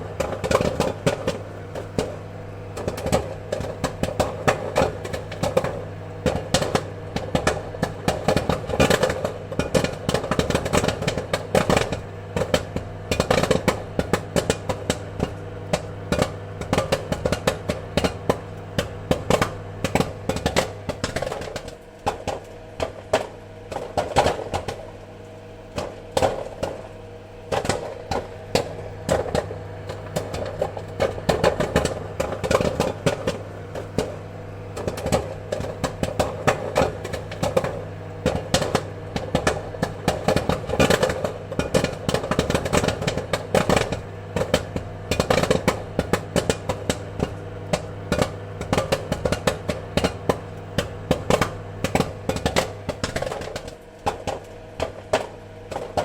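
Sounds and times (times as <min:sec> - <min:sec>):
popcorn popping: 0:00.0 - 0:56.0
steady low hum: 0:00.0 - 0:56.0.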